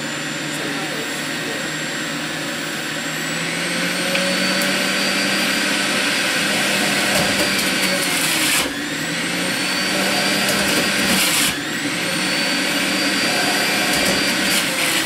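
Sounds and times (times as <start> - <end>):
juicer motor whirring: 0.0 - 15.0.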